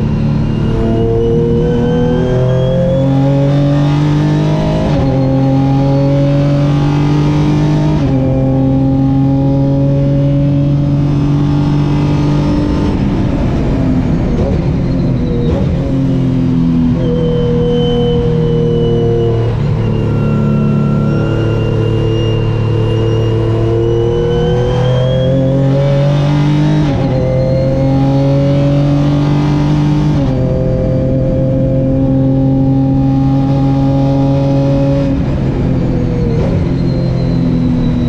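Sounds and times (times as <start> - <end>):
race car engine pulling hard: 0.0 - 38.0.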